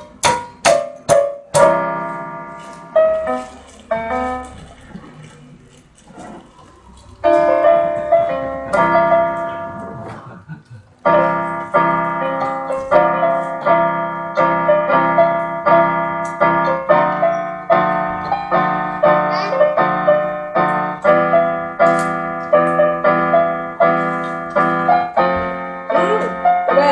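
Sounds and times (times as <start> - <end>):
electronic keyboard piano chords: 0.0 - 26.9.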